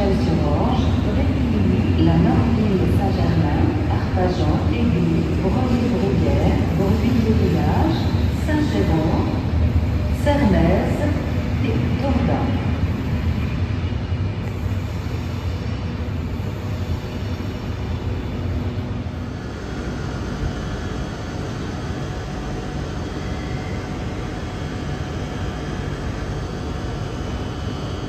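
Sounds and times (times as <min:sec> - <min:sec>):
train low mechanical drone: 0:00.0 - 0:28.0.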